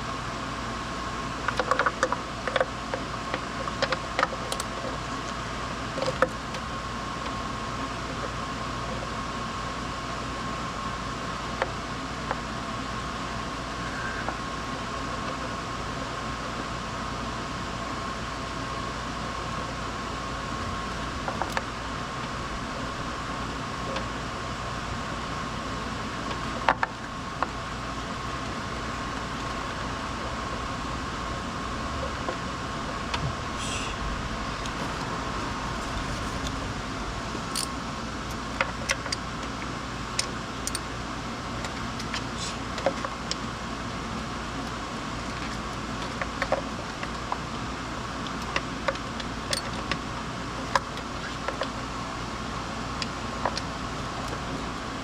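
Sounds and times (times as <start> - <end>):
mechanical hum with whine: 0.0 - 55.0.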